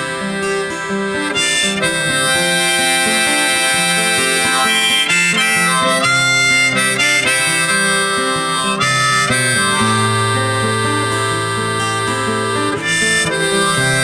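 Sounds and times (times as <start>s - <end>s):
acoustic guitar: 0.0s - 14.0s
held lead melody: 0.0s - 14.0s.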